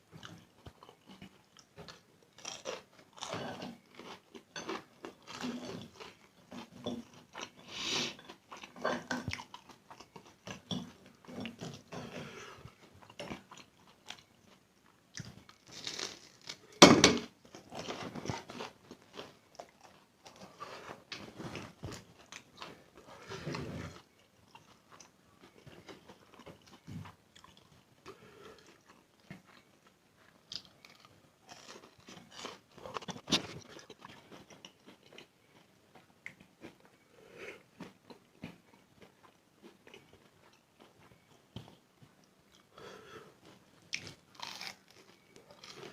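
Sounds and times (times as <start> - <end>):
chewing noodles: 0.1 - 16.6, 17.4 - 45.9.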